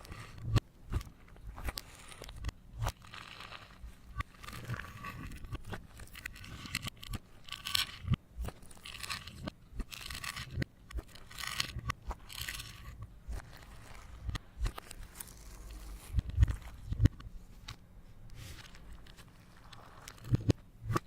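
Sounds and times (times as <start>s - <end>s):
slime crackling and scraping: 0.0s - 21.0s.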